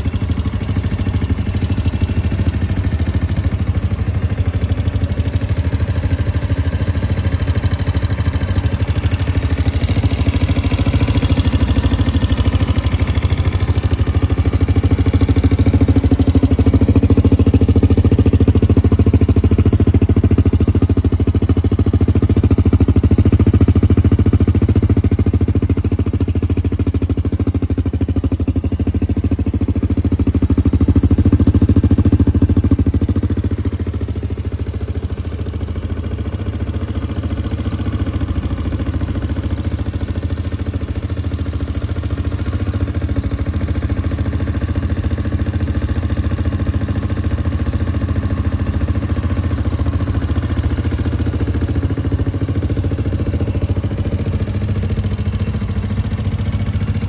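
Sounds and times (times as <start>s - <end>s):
quad engine idling: 0.0s - 57.0s.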